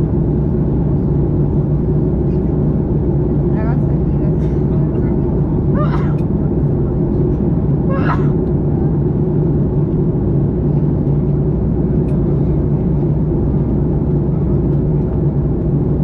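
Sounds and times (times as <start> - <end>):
jet airliner cabin drone: 0.0 - 16.0.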